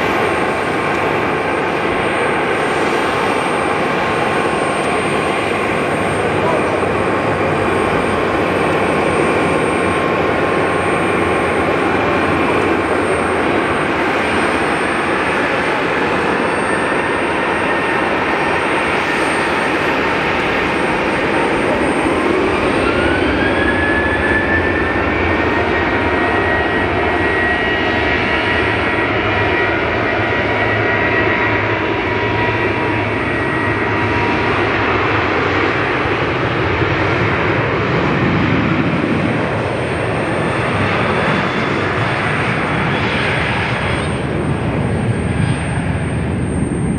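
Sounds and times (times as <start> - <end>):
jet engines spooling up: 0.0 - 46.9.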